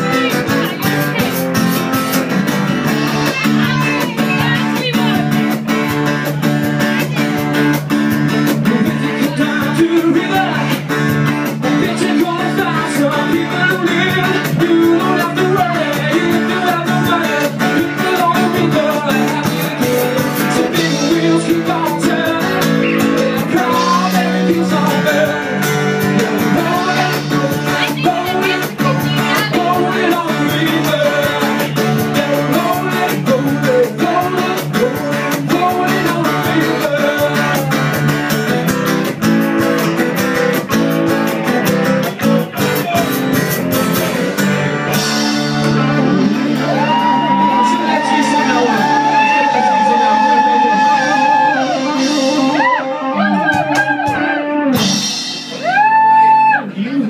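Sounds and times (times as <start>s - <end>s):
live rock band playing: 0.0s - 57.0s
person singing: 2.8s - 38.2s, 42.6s - 57.0s.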